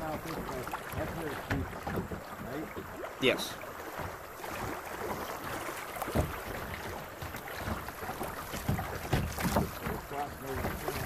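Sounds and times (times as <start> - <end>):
creek water rushing: 0.0 - 11.0
water splashes: 0.0 - 11.0.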